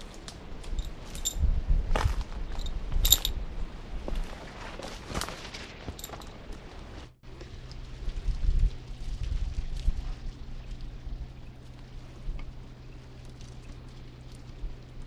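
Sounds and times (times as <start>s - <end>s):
wind rumble on microphone: 0.0s - 4.9s, 6.6s - 15.0s.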